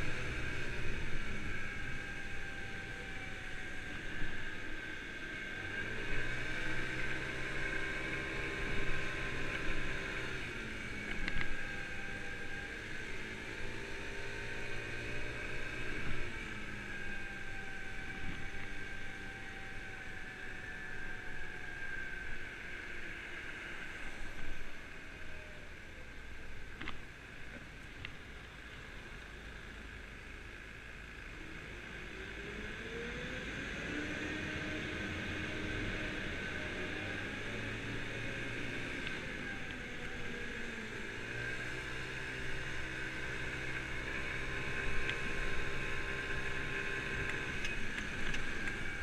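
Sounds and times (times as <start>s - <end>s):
scooter engine accelerating: 0.0s - 25.8s, 29.4s - 49.0s
road and wind noise: 0.0s - 49.0s.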